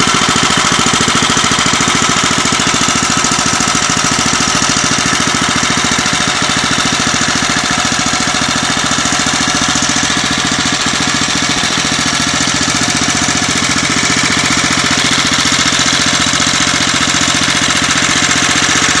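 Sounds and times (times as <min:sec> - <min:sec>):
stationary engine running: 0:00.0 - 0:19.0.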